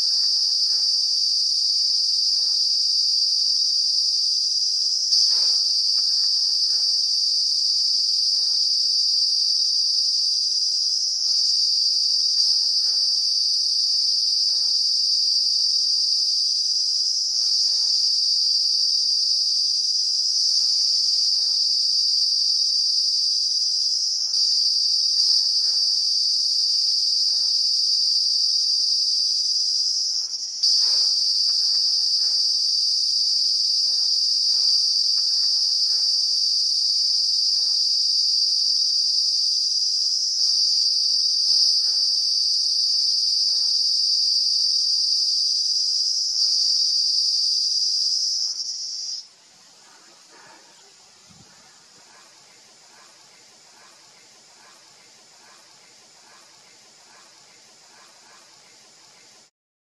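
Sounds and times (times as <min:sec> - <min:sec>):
cicada buzzing: 0:00.0 - 0:09.7, 0:10.5 - 0:49.3.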